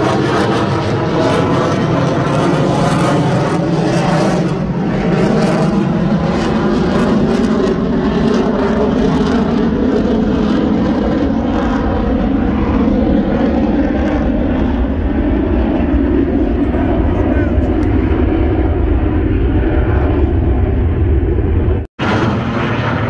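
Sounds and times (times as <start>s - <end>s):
aircraft engine drone: 0.0s - 23.0s.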